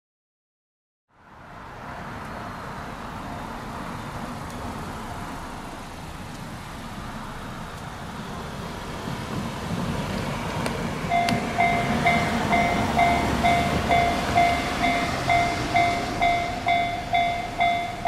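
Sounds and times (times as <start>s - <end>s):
traffic noise: 1.1s - 18.0s
approaching train rumble: 1.2s - 18.0s.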